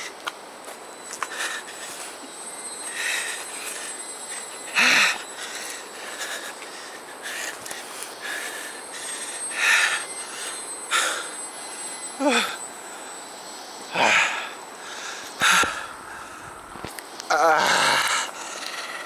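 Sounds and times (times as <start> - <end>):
high-pitched whine: 0.0 - 19.0
person breathing hard: 1.1 - 13.2, 13.9 - 16.8, 17.5 - 19.0.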